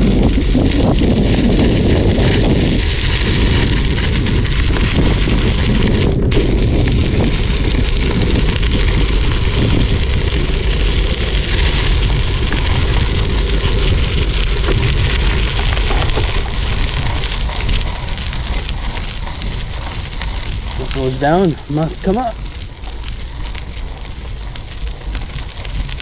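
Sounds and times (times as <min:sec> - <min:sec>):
bicycle tyres on gravel: 0:00.0 - 0:26.0
wind buffeting microphone: 0:00.0 - 0:26.0.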